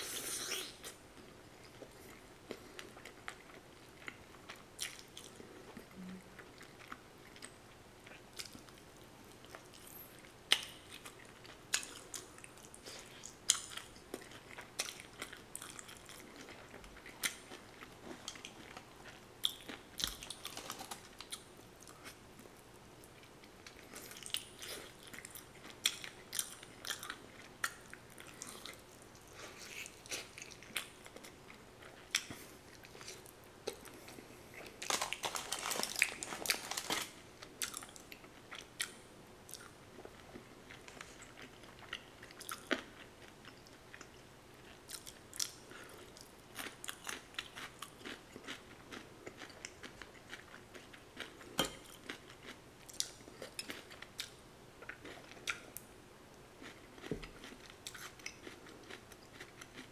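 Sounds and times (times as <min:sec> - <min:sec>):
person chewing crunchy food: 0:00.0 - 0:55.8, 0:56.6 - 0:59.9.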